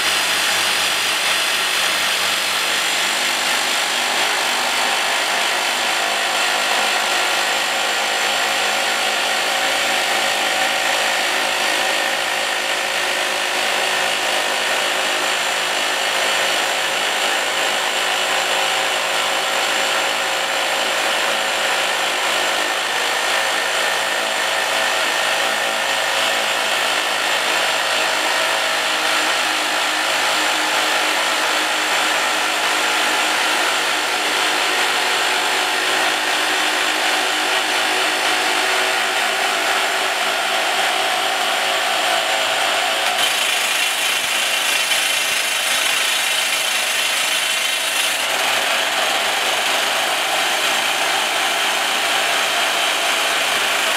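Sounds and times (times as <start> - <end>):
rock drill grinding: 0.0 - 53.9.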